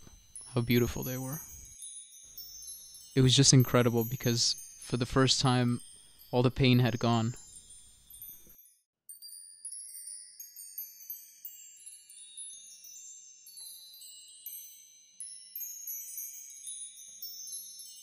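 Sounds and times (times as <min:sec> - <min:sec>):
high tinkling chimes: 0:00.0 - 0:18.0.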